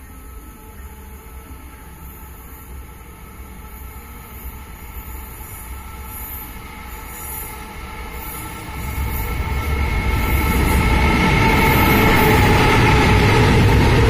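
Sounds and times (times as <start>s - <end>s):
electric locomotives approaching: 0.0s - 14.0s.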